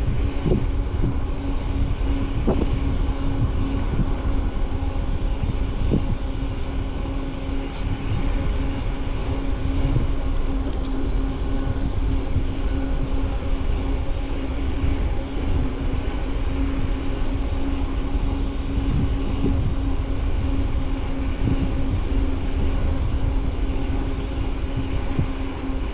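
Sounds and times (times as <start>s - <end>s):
steady hum: 0.0s - 25.9s
wind on microphone: 0.0s - 25.9s.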